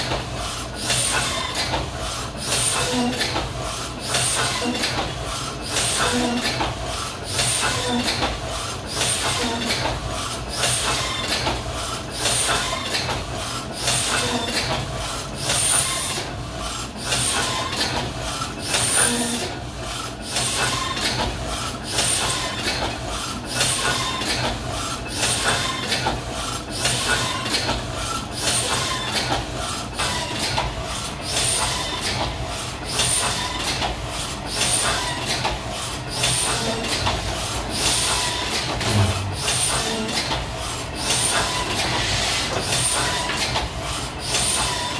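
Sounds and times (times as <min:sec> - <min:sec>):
printing press rhythmic clatter: 0:00.0 - 0:44.9.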